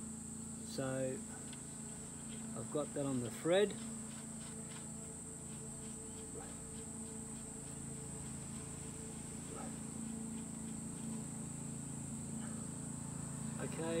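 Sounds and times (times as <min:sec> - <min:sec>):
high-pitched whine: 0:00.0 - 0:14.0
low hum: 0:00.0 - 0:14.0.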